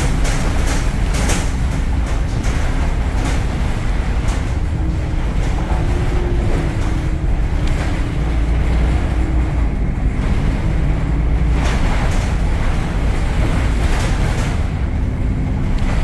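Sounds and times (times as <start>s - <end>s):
bus engine low rumble: 0.0s - 16.0s.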